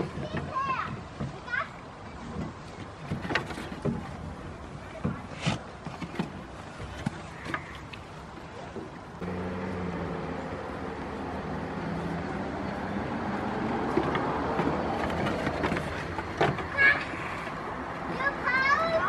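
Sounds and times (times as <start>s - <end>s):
hooves knocking on wooden planks: 0.0s - 8.0s, 8.7s - 18.6s.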